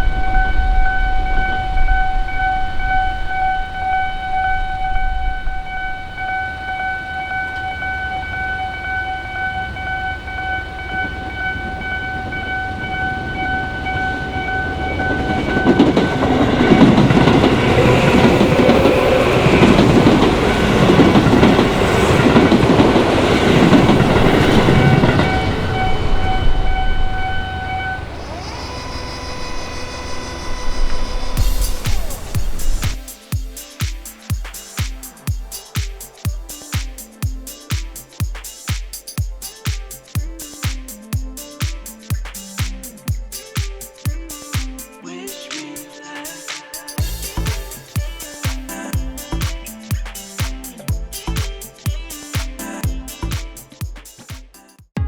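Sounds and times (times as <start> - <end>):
train rumbling past: 0.0 - 38.7, 39.4 - 53.3
level crossing warning alarm: 0.0 - 53.6.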